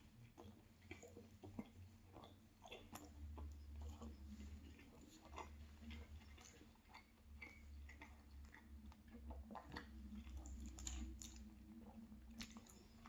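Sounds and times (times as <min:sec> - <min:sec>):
chewing with soft mouth clicks: 0:00.0 - 0:13.0
low steady hum: 0:00.0 - 0:13.0.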